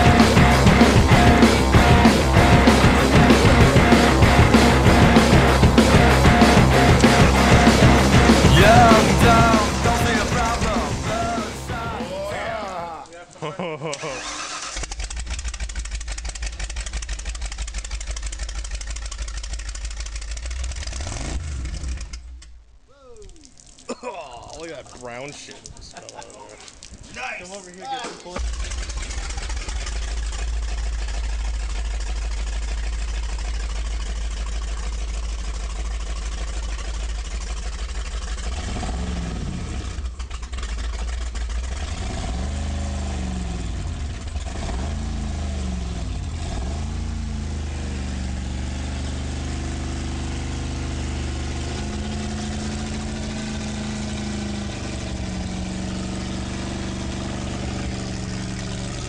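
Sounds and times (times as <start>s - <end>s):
engine revving: 0.0s - 12.7s, 13.8s - 22.6s, 28.4s - 59.0s
exhaust spraying water: 0.0s - 59.0s.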